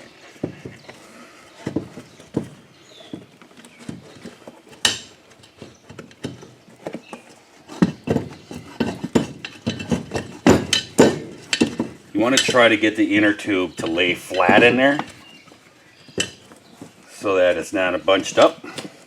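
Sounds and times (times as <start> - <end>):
knocks and clatters handling tire: 0.0 - 19.0.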